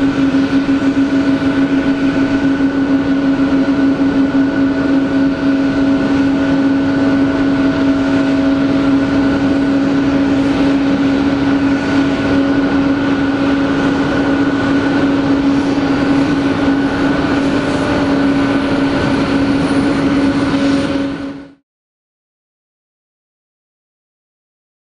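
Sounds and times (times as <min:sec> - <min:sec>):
jet engines running: 0:00.0 - 0:21.6.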